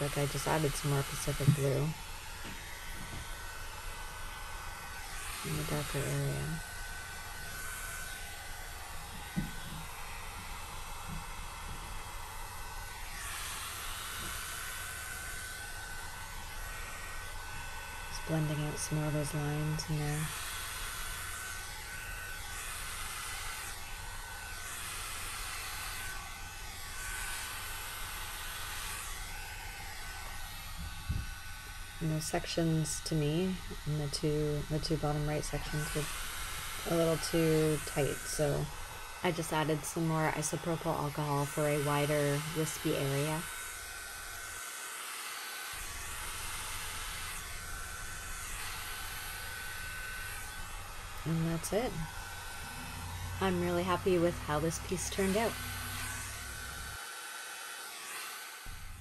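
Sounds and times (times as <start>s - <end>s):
hot air brush blowing: 0.0s - 59.0s.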